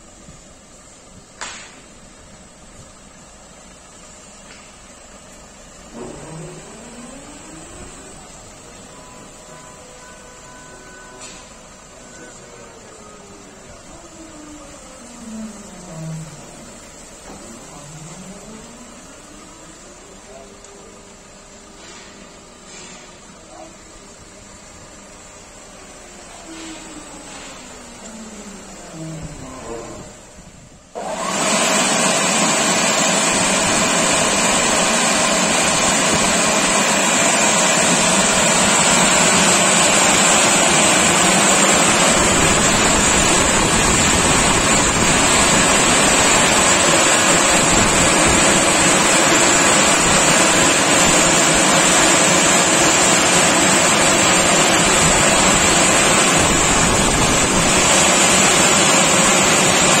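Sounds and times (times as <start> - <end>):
dryer blower fans rushing: 0.0 - 60.0.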